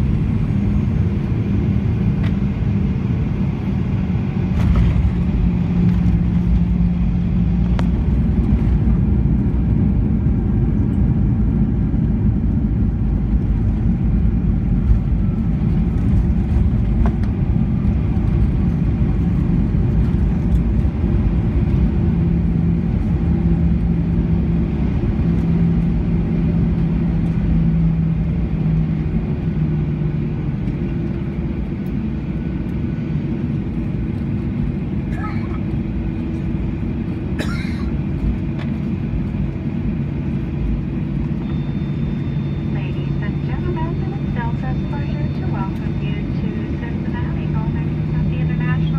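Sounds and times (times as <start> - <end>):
aircraft engines idling rumble: 0.0 - 48.9
low hum: 0.0 - 48.9.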